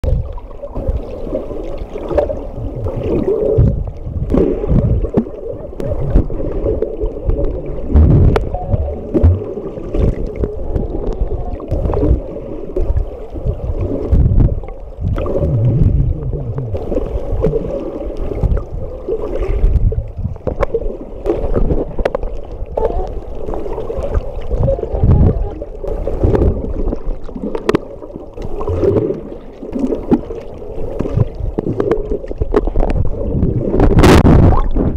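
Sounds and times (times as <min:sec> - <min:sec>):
underwater rumble and slosh: 0:00.0 - 0:34.9.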